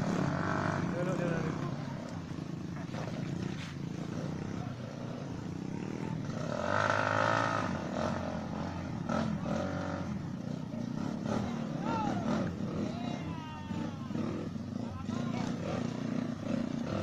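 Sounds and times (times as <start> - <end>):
motorbike engine revving hard: 0.0 - 17.0.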